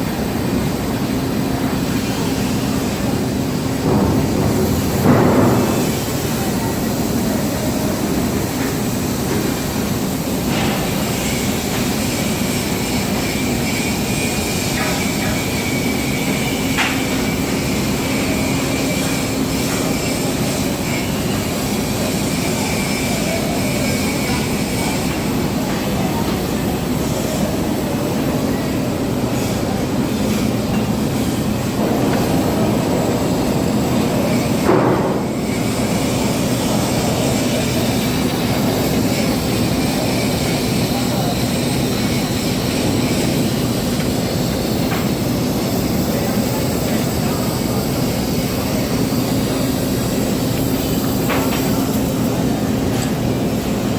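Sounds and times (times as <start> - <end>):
loud industrial hum: 0.0 - 53.9.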